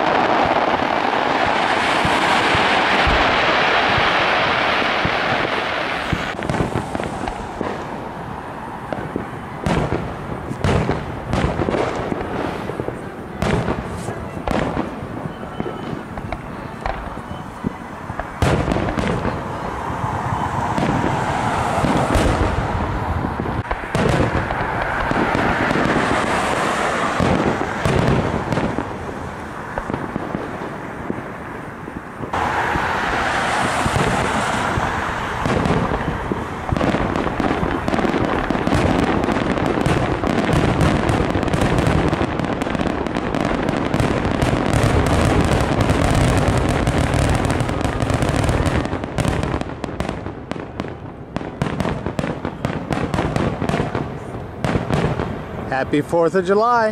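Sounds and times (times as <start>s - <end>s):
fireworks booming and crackling: 0.0s - 56.9s.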